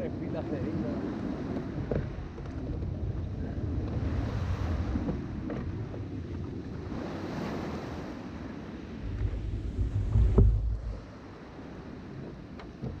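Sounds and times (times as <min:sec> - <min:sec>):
sea water washing: 0:00.0 - 0:13.0
wind buffeting microphone: 0:00.0 - 0:13.0.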